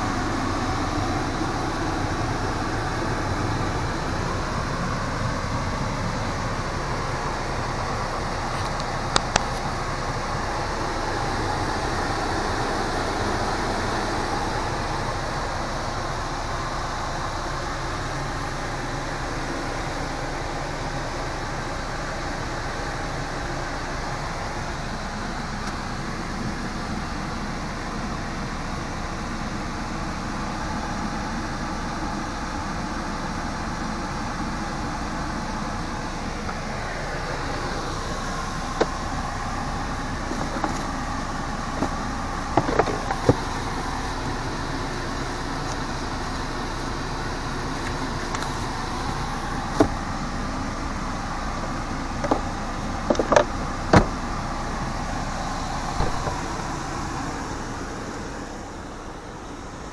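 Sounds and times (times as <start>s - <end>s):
vehicle rumble and hiss: 0.0s - 59.9s.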